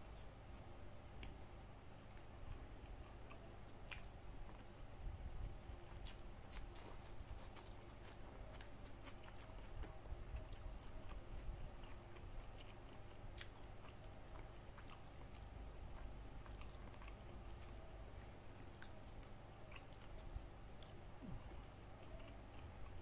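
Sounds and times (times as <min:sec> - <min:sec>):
person chewing food: 0:02.1 - 0:04.8, 0:05.8 - 0:23.0.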